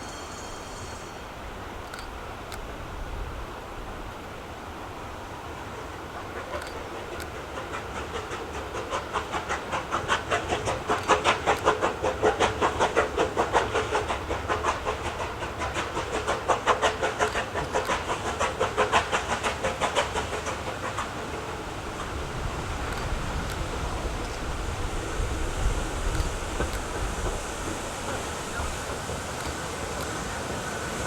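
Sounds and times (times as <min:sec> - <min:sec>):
steam locomotive exhaust beat: 0:00.0 - 0:31.0.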